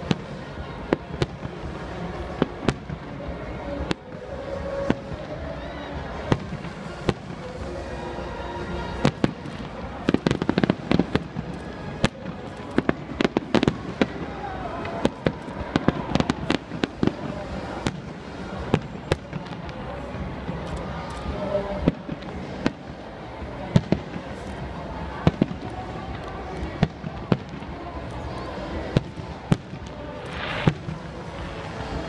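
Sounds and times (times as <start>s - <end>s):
background music: 0.0s - 32.0s
fireworks bangs and crackles: 0.0s - 32.0s.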